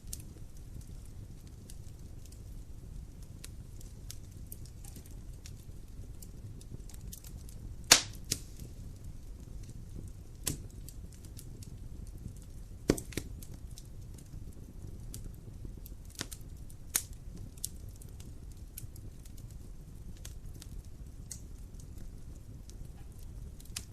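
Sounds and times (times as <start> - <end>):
fire crackling and popping: 0.0 - 23.9
fire flames rumbling: 0.0 - 23.9.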